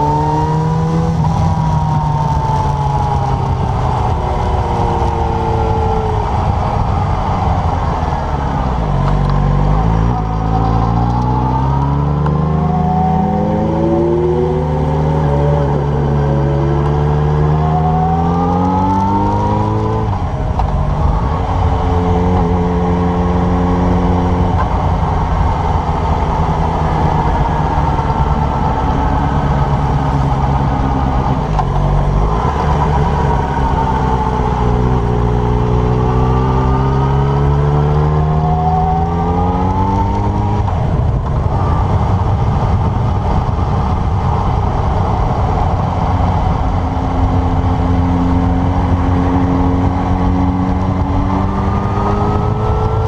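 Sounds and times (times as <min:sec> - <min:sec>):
motorcycle engine accelerating: 0:00.0 - 0:53.0
wind rumble on microphone: 0:00.0 - 0:53.0.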